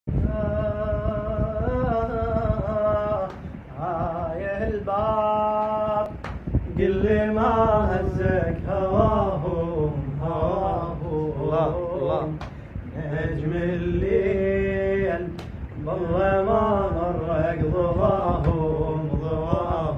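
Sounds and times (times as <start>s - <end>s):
man chanting unaccompanied: 0.1s - 19.9s.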